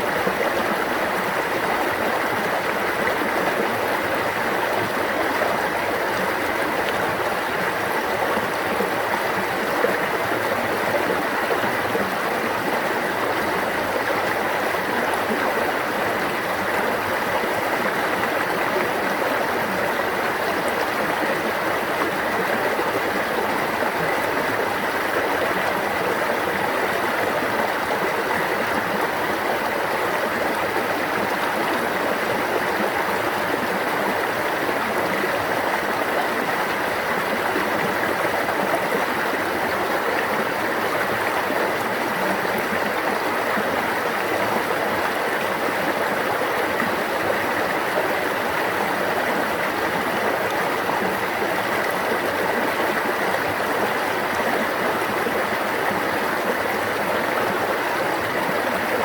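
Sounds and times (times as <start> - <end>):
stream of water rushing: 0.0 - 59.0.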